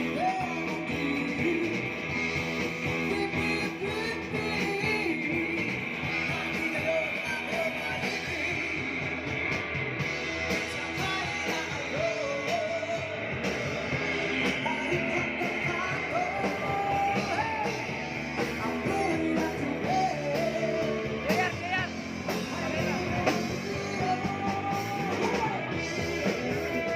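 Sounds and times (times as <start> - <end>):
rock and roll band with singer: 0.0 - 26.9.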